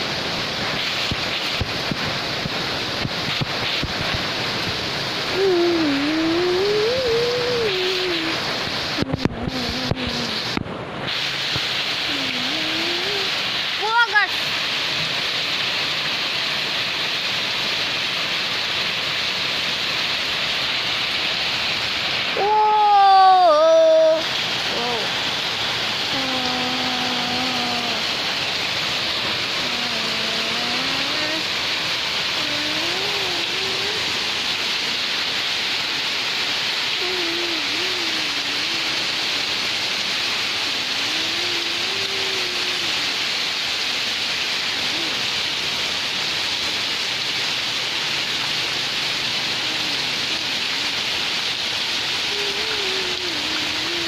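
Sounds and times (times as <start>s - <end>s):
heavy rain on puddles: 0.0s - 54.0s.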